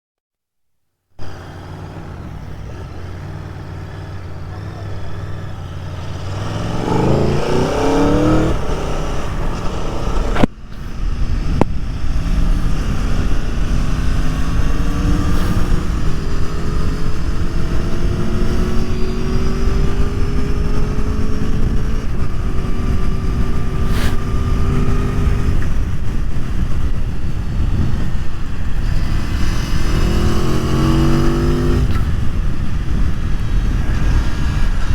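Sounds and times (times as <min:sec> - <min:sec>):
motorcycle engine revving: 0:01.2 - 0:34.9
wind noise: 0:01.2 - 0:34.9.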